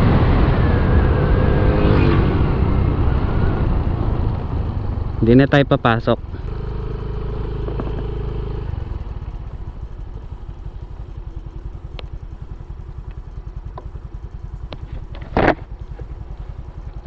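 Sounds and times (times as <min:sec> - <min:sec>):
motorcycle engine idling: 0:02.6 - 0:17.0.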